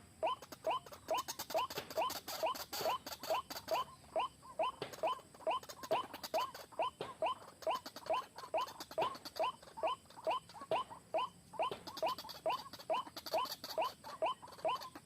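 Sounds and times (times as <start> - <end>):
waterhen croaking calls: 0.0 - 15.0.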